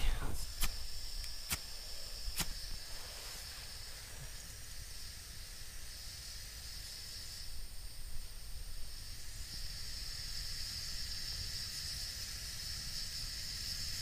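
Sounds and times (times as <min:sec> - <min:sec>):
gas hissing from stove burner: 0:00.0 - 0:14.0.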